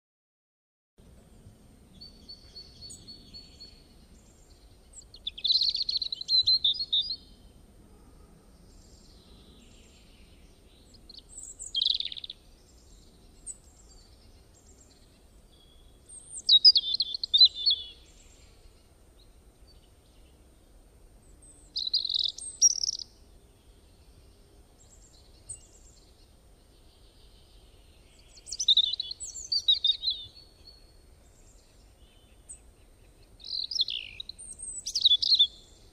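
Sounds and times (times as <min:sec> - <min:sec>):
faint low background noise: 0:01.0 - 0:35.9
songbird chirping: 0:01.0 - 0:35.9.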